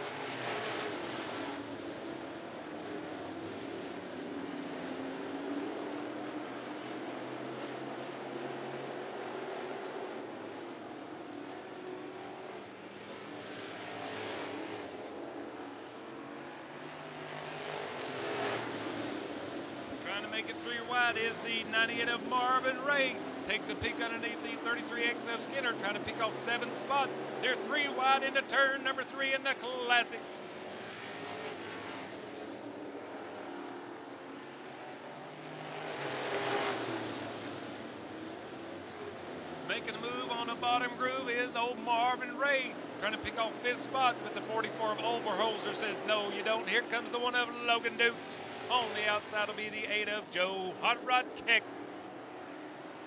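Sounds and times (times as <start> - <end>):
race car engines: 0.0 - 53.0.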